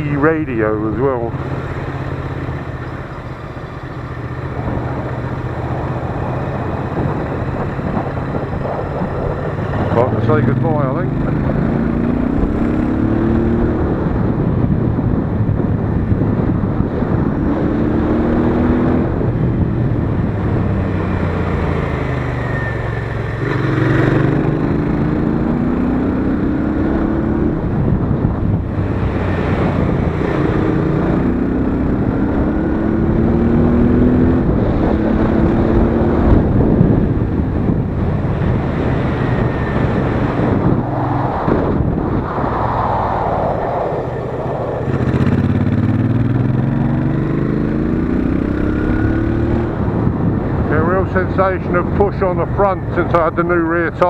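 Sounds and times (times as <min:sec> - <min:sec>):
motorcycle engine accelerating: 0:00.0 - 0:54.0
wind on microphone: 0:04.1 - 0:54.0.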